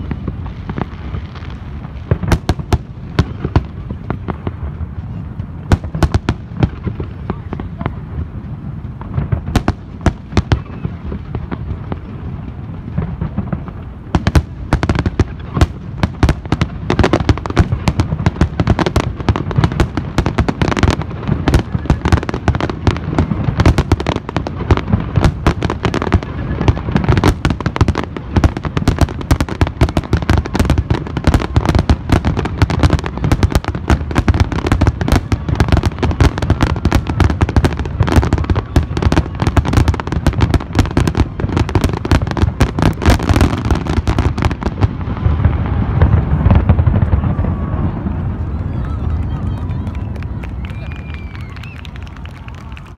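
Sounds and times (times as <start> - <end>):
fireworks barrage crackling: 0.0 - 52.9.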